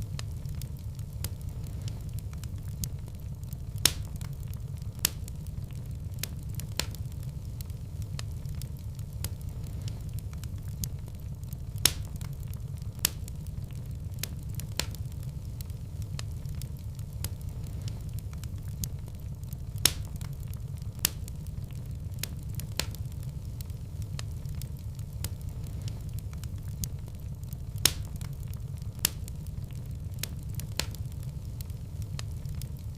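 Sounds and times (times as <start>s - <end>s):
fire burning with crackles: 0.0s - 32.9s
sharp pops of fire: 0.0s - 32.9s.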